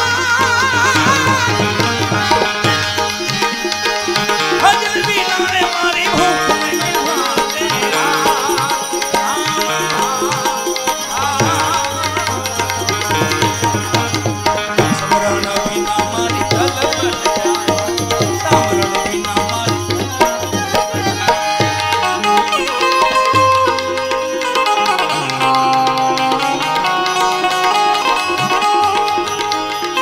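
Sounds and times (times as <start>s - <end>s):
tabla drumming: 0.0s - 30.0s
wavering melody line: 0.0s - 30.0s.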